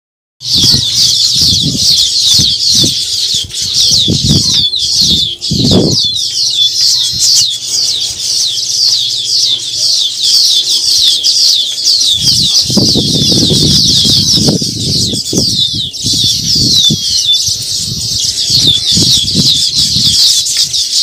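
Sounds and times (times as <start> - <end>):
birds chirping in chorus: 0.4 - 21.0.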